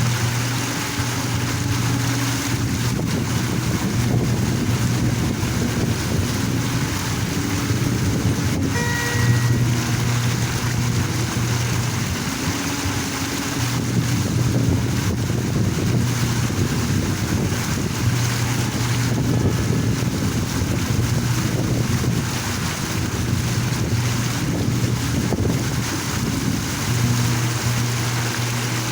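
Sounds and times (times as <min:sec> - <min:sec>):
low hum: 0:00.0 - 0:28.9
water fountain splashing: 0:00.0 - 0:28.9
wind buffeting microphone: 0:00.0 - 0:28.9.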